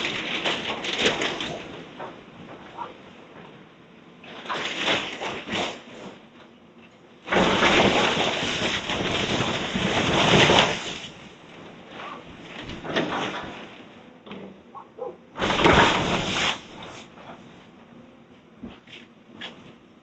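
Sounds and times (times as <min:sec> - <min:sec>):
demolition debris crashing: 0:00.0 - 0:14.7, 0:15.3 - 0:17.6.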